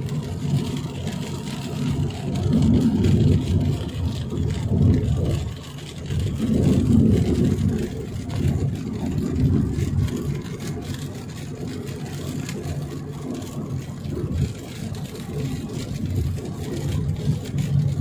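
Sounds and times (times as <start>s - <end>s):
road and engine noise in car: 0.0s - 18.0s.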